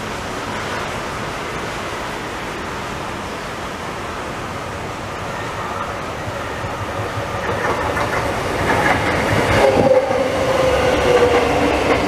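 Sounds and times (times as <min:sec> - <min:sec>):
train rushing noise: 0:00.0 - 0:12.0.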